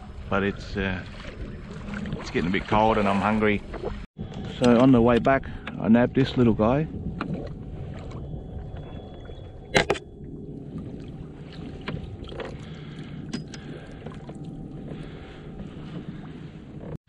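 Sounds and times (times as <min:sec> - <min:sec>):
water lapping against kayak hull: 0:00.0 - 0:17.0
wind and water rumble: 0:00.0 - 0:17.0.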